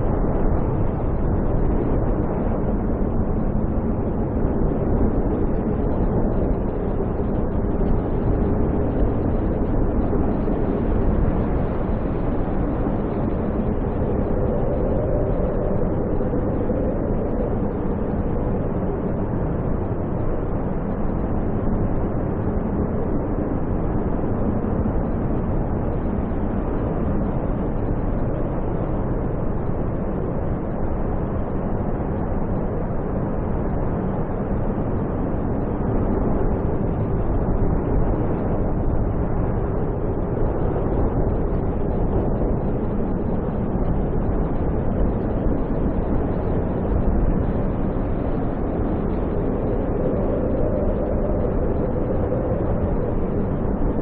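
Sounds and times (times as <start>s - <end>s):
snowstorm wind blowing: 0.0s - 54.0s.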